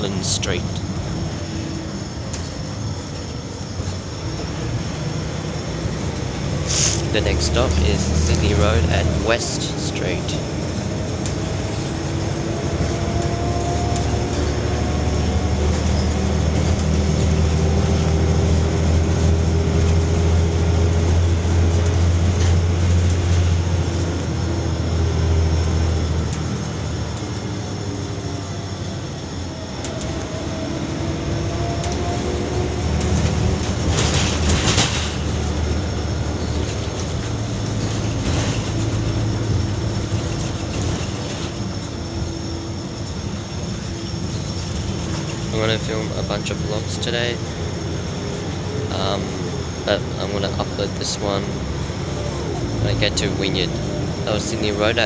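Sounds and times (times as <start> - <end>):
bus diesel engine droning and whining: 0.0 - 55.0.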